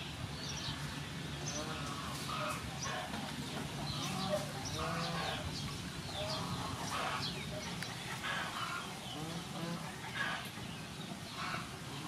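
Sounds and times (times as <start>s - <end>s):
small birds chirping: 0.0s - 12.0s
chickens clucking: 0.7s - 12.0s.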